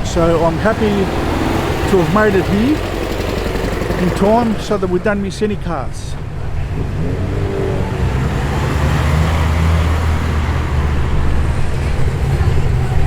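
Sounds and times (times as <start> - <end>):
car engine passing by: 0.0 - 5.0, 6.4 - 13.0.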